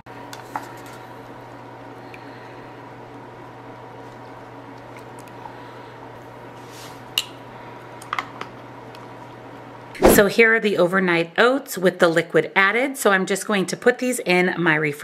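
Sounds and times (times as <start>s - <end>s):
faint steady hum: 0.1s - 13.1s.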